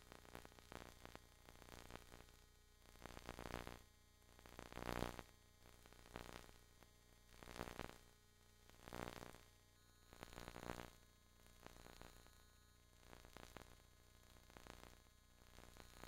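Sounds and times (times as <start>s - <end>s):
faint static hiss: 0.0s - 16.0s.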